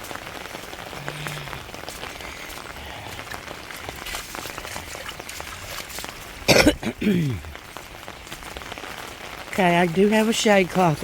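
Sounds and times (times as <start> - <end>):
rain falling and dripping: 0.0 - 11.0.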